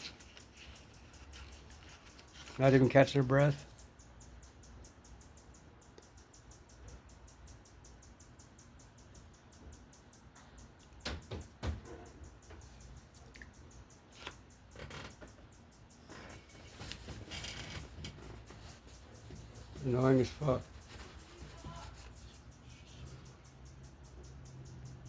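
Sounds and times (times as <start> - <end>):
bird chirping rapidly: 0.0 - 25.0.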